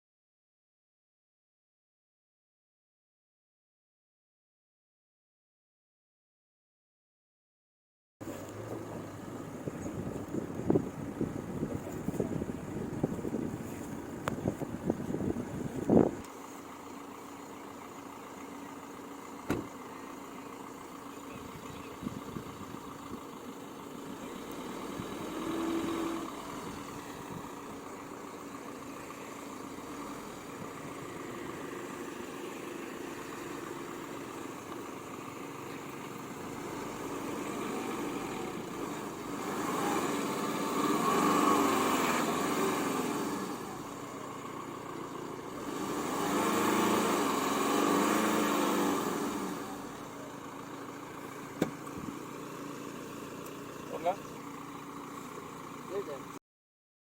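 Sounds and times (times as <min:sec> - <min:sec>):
car engine idling and revving: 0:08.2 - 0:56.4.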